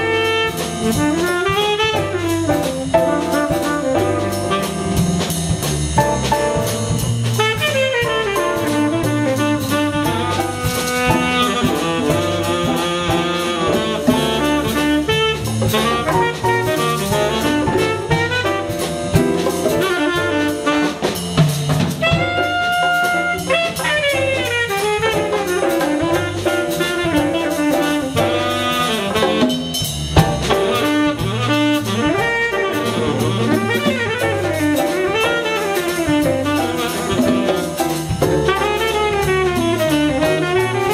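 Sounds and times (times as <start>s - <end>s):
tenor saxophone solo: 0.0s - 5.6s, 6.2s - 40.9s
jazz bass drums and piano: 0.0s - 40.9s.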